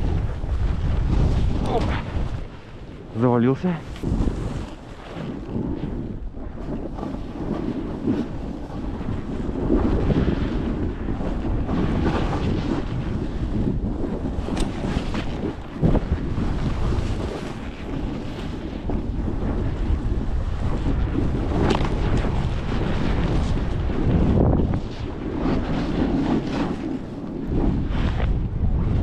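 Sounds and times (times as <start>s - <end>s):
gusting wind buffeting microphone: 0.0s - 29.0s.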